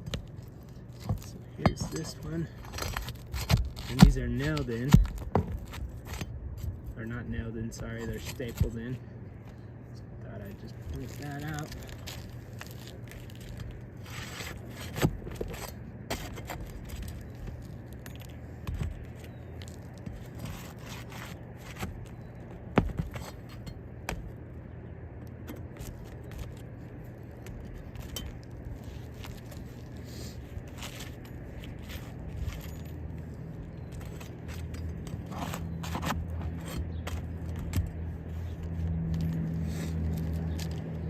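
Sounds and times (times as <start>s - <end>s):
tool scraping roof shingles: 0.0s - 6.8s, 7.7s - 8.8s, 10.7s - 24.2s, 25.4s - 38.6s.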